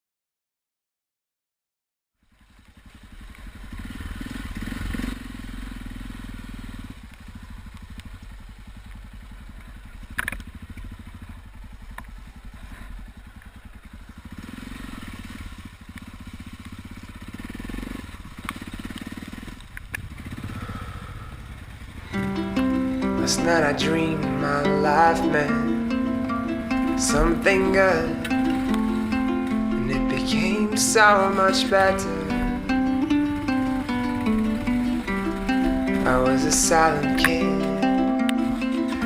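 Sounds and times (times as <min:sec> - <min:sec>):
single-cylinder engine running: 0:02.2 - 0:39.0.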